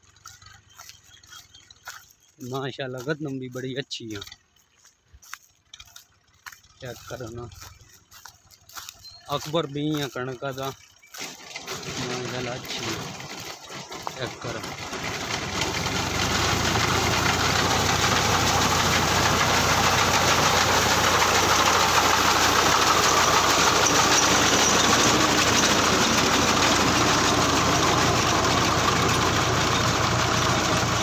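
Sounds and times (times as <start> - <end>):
tractor diesel engine running: 0.0 - 31.0
reaper cutting wheat: 5.3 - 31.0.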